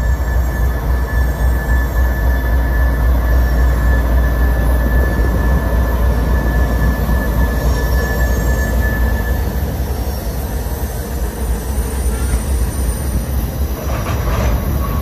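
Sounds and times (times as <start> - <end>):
locomotive engine rumbling: 0.0 - 15.0
thin high whine: 0.0 - 15.0.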